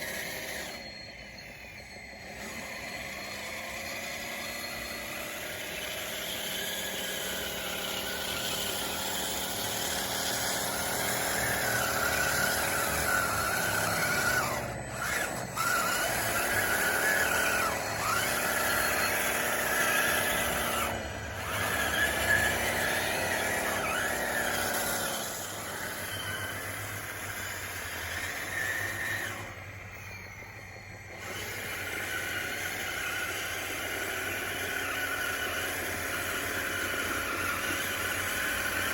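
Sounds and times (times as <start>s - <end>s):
toy bulldozer motors whining: 0.0s - 38.9s.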